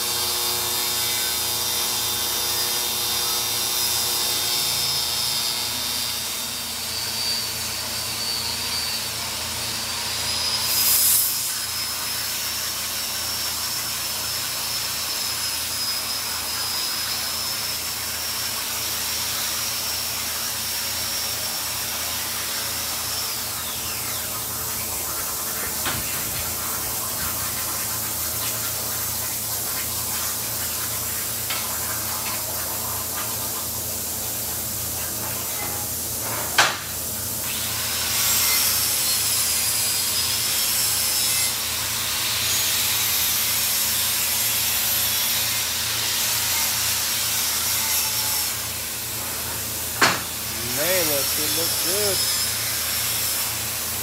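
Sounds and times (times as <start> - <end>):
machine noise: 0.0 - 36.8, 47.5 - 54.0.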